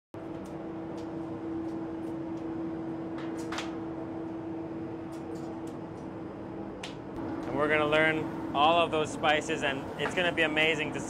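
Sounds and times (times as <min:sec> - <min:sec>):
steady machine hum: 0:00.2 - 0:11.0.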